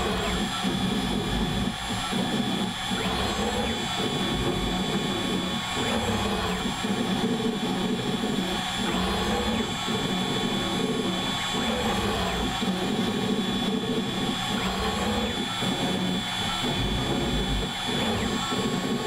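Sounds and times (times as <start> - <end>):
axis motors whirring: 0.0 - 19.0
router spindle whining: 0.0 - 19.0.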